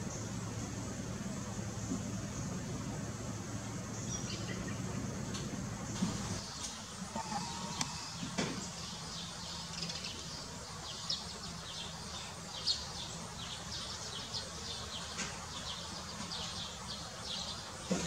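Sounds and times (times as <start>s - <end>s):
birds chirping: 0.0s - 18.0s
steady outdoor hiss: 0.0s - 18.0s.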